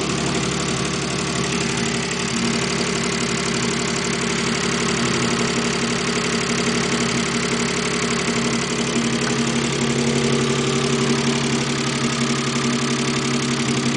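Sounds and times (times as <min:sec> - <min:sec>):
car engine idling with knock: 0:00.0 - 0:13.9.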